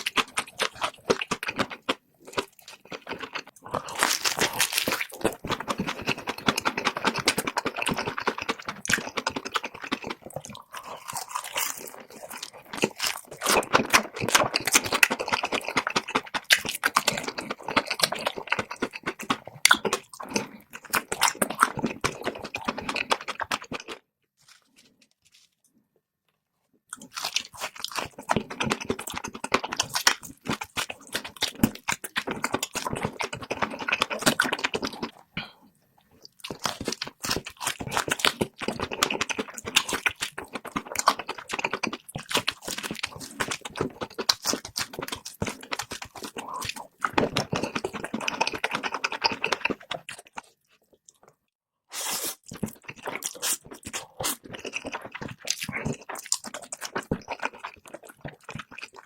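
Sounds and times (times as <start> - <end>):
rapid crunching and chewing: 0.0 - 25.7, 26.9 - 59.0.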